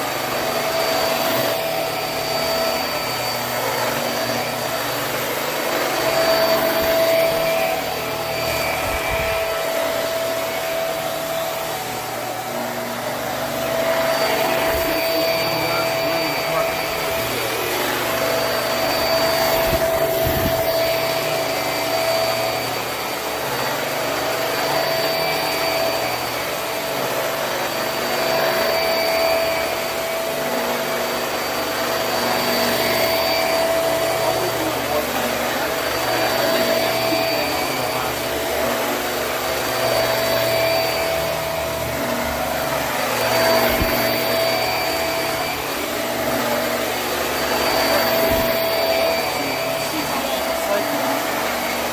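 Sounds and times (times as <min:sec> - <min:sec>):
upright vacuum running on carpet: 0:00.0 - 0:51.9.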